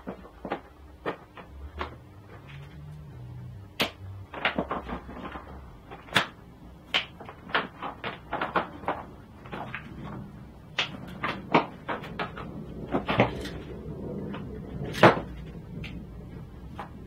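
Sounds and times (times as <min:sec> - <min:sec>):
cables and hand tool clicking: 0:00.0 - 0:17.0.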